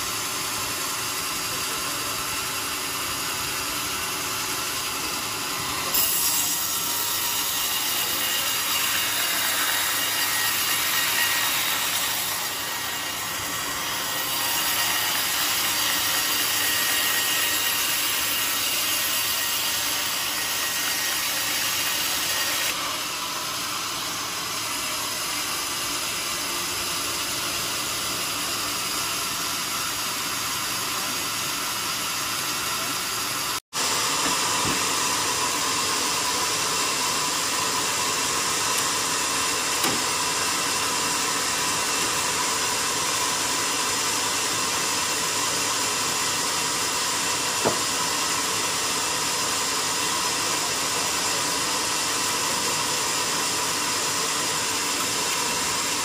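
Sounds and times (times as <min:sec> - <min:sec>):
band saw cutting through log: 0:00.0 - 0:56.0.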